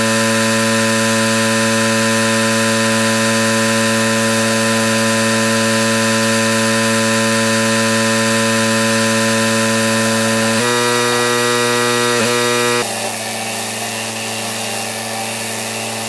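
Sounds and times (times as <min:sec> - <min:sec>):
pressure washer engine droning: 0:00.0 - 0:12.0, 0:12.7 - 0:16.0.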